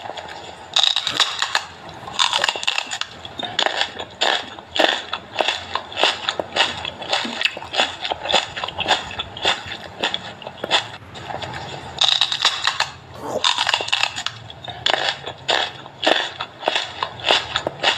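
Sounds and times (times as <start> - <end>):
crunchy food chewing: 0.0 - 17.9.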